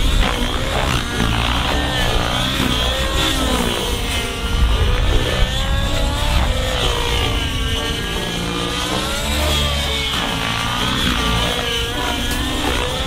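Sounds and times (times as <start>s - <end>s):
model helicopter rotor whine: 0.0s - 13.0s.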